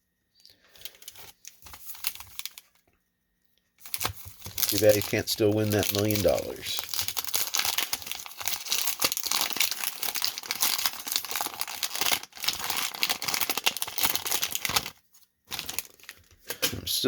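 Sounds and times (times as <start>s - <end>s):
wax paper wrapper crinkling: 0.7s - 3.0s, 3.7s - 16.6s.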